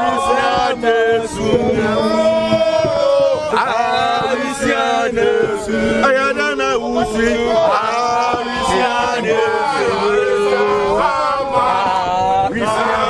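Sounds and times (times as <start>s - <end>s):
men singing a chant: 0.0s - 13.0s.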